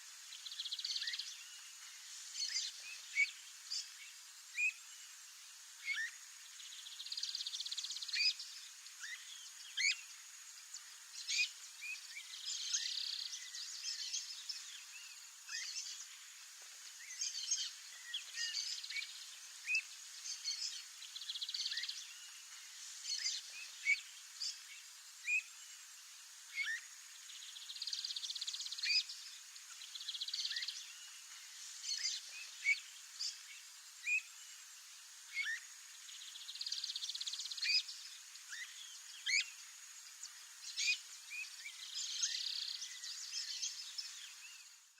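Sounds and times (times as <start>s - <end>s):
faint high hiss: 0.0s - 44.9s.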